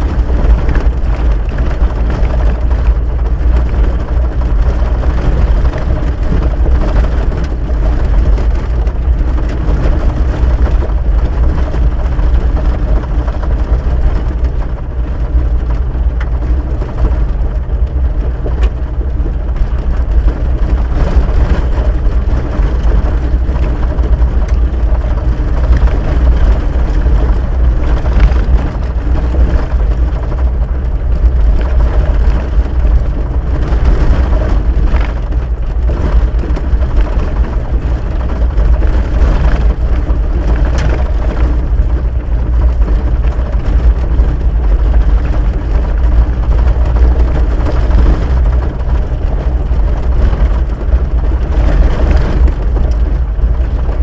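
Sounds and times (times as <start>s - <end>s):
engine rumble: 0.0s - 54.0s.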